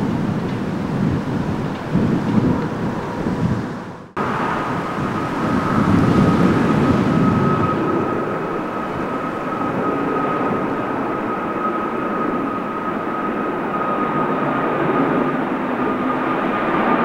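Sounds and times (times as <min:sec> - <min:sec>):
jet engine high whine: 0:00.0 - 0:17.0
jet engines rumbling: 0:00.0 - 0:17.0.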